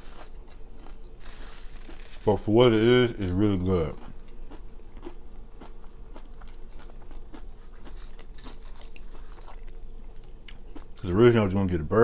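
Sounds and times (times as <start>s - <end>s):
chewing crunchy tortilla chips: 0.0s - 11.4s
faint steady hum: 0.0s - 12.0s.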